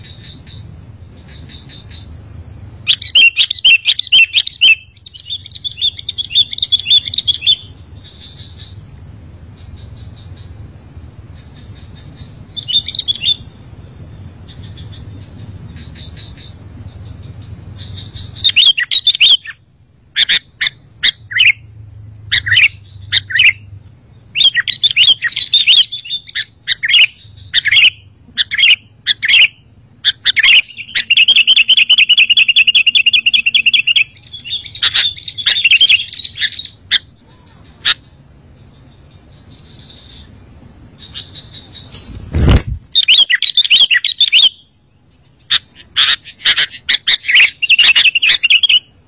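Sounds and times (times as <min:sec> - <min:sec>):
bird chirping: 0:00.0 - 0:49.0
fast bird trill: 0:01.3 - 0:10.5, 0:11.3 - 0:13.6, 0:14.5 - 0:23.7, 0:24.3 - 0:38.2, 0:39.3 - 0:49.0.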